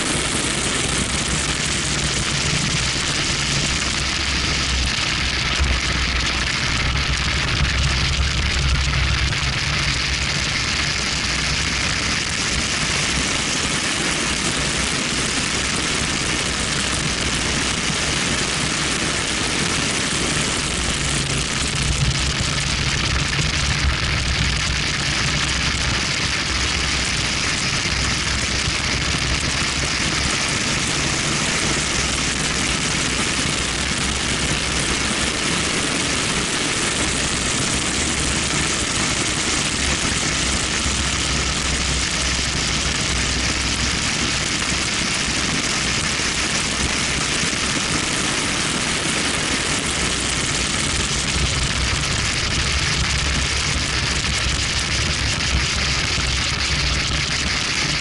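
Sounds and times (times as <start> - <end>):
car engine rumble: 0.0 - 58.0
tyre and road roar: 0.0 - 58.0
wind rush over microphone: 0.0 - 58.0.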